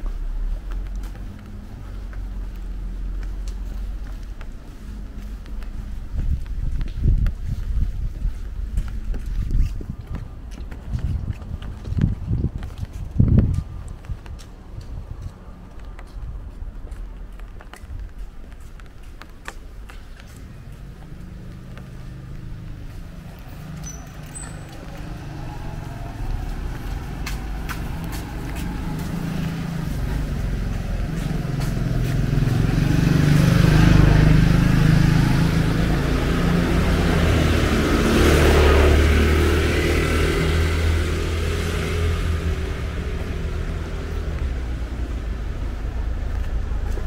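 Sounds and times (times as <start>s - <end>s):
vehicle engine rumble: 0.0s - 47.0s.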